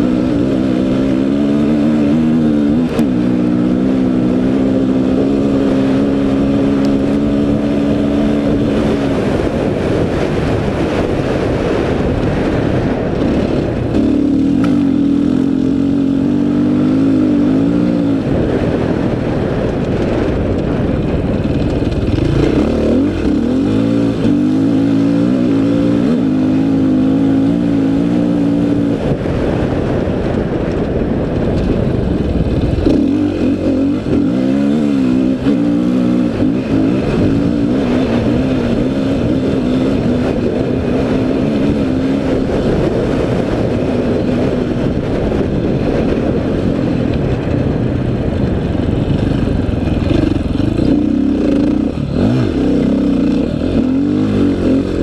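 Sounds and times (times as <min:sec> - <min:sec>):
dirt bike engine revving: 0:00.0 - 0:30.5, 0:31.4 - 0:47.5, 0:48.2 - 0:55.0
constant rushing noise: 0:00.0 - 0:55.0.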